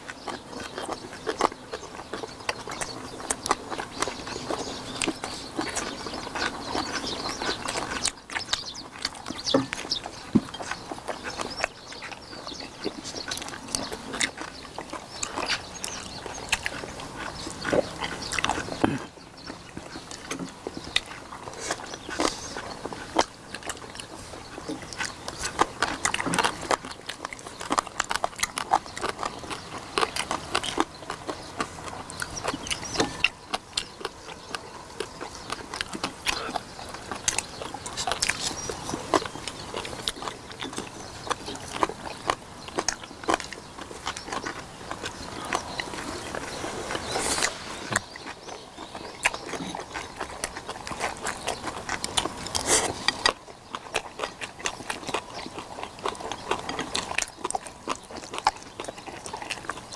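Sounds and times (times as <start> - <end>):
people chewing with wet smacks: 0.0 - 59.9.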